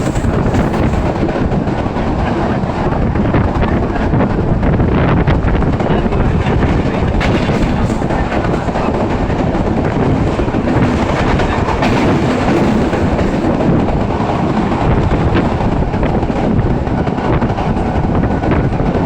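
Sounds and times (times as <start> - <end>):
wheels clattering over rail joints: 0.0 - 18.6
train rumbling on rails: 0.0 - 19.0.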